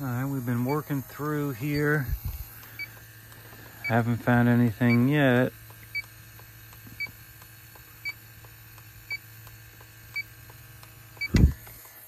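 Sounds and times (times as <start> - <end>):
leak detector beeping slowly: 0.0 - 12.0.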